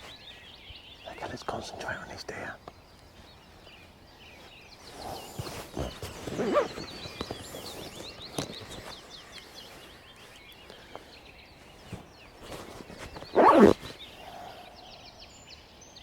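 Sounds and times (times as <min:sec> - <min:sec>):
high chirping birdsong: 0:00.0 - 0:16.0.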